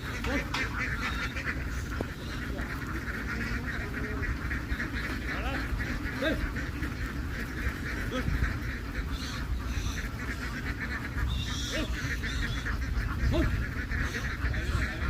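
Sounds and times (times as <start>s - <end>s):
flock of ducks quacking: 0.0s - 15.0s
loud single duck calls: 0.0s - 15.0s.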